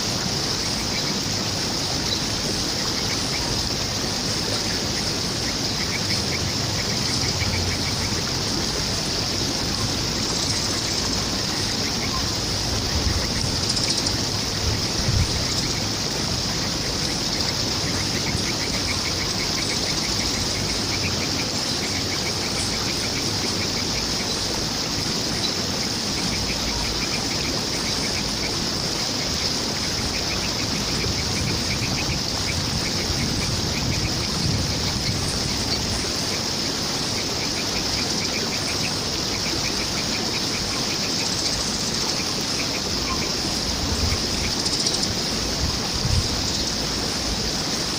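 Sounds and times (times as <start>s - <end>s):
flowing water rushing: 0.0s - 47.9s
bird ticking trills: 0.4s - 45.4s.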